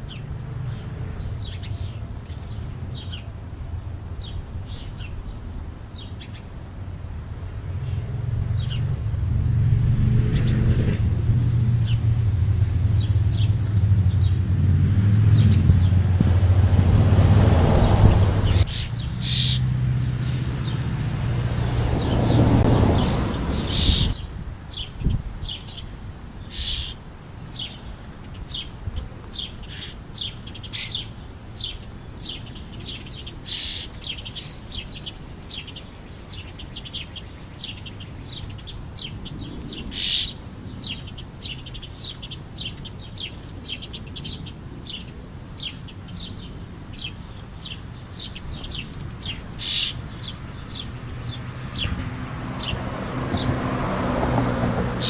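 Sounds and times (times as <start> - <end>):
wild birds chirping: 0.0 - 55.0.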